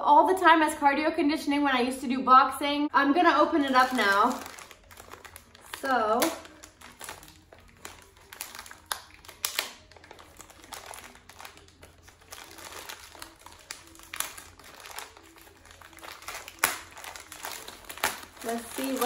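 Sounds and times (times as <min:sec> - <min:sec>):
plastic bag crinkling: 0:03.4 - 0:19.0
sealed top crackling apart: 0:03.6 - 0:19.0.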